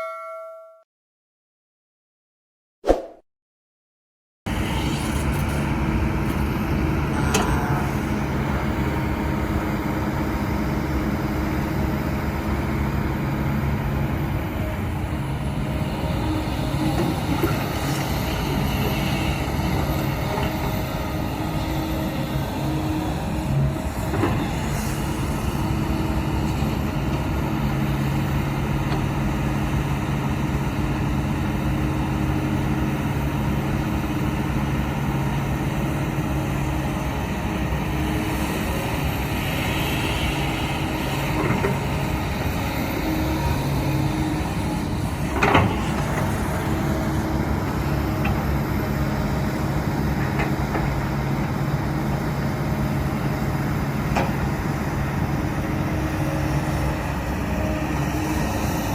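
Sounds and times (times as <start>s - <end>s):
heavy machine diesel engine: 4.5s - 58.9s.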